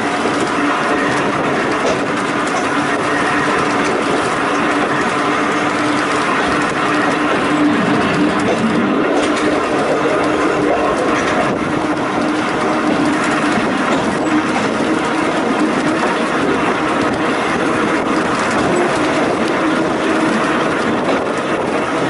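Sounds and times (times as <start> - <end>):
constant hum: 0.0 - 22.0
railway car rolling rumble: 0.0 - 22.0.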